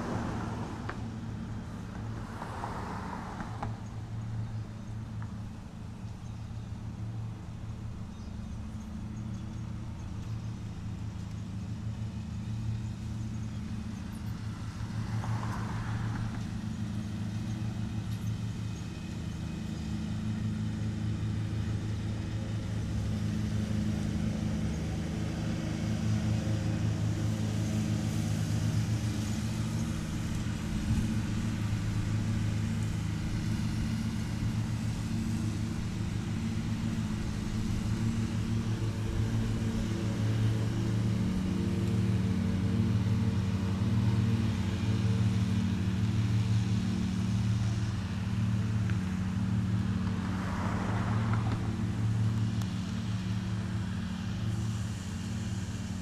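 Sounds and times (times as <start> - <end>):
lawn mower engines running: 0.0 - 56.0.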